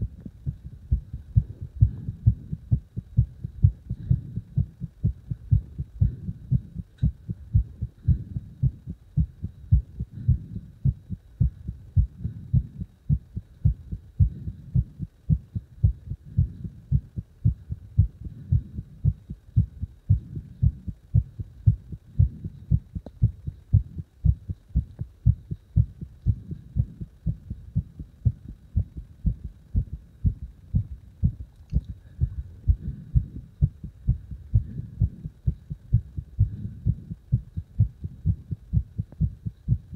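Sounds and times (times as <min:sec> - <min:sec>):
heart beating: 0:00.0 - 0:39.9.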